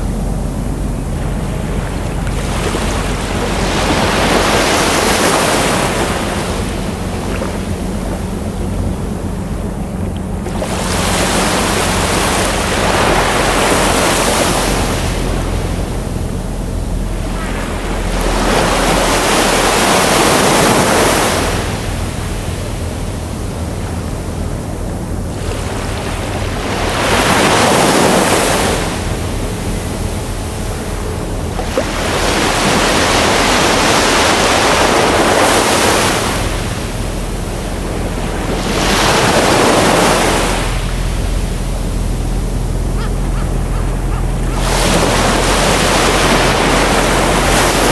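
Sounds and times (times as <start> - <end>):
ocean surf breaking: 0.0 - 47.9
steady low rumble: 0.0 - 47.9.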